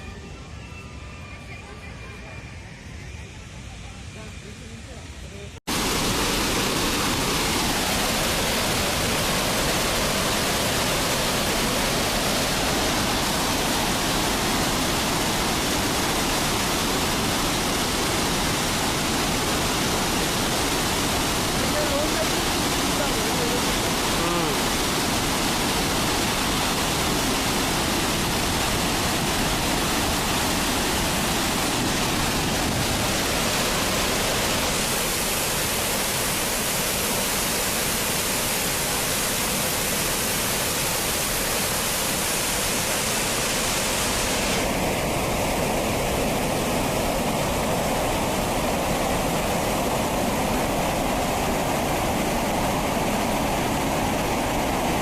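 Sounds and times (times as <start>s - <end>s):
large waterfall rushing: 5.6s - 55.0s.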